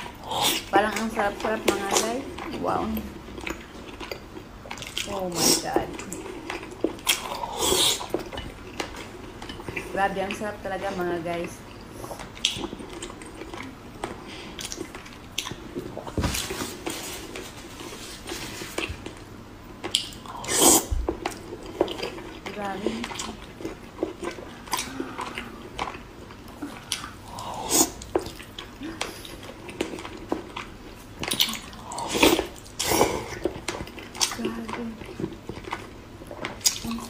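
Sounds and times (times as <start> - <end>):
chewing and squelching bites: 0.0 - 10.4, 11.4 - 37.0.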